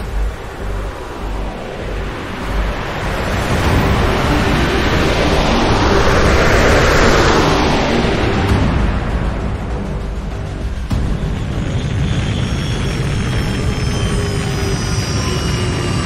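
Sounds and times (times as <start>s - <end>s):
deep rumble: 0.0s - 16.0s
rushing noise: 0.0s - 16.0s.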